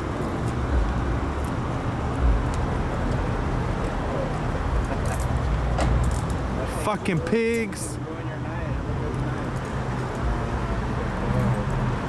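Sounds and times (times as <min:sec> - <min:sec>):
passing cars rumbling: 0:00.0 - 0:12.0.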